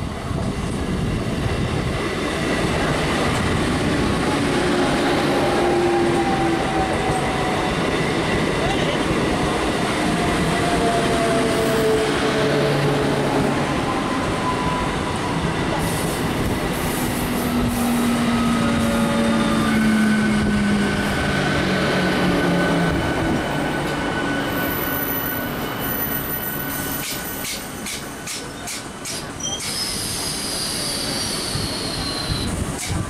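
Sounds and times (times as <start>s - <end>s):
train wheels rushing on rails: 0.0s - 33.0s.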